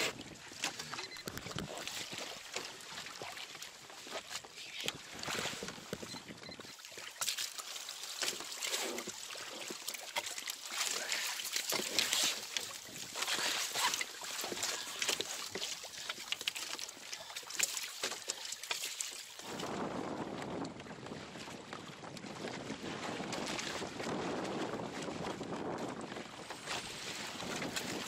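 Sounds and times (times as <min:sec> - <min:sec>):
water splashing against kayak hull: 0:00.0 - 0:28.0.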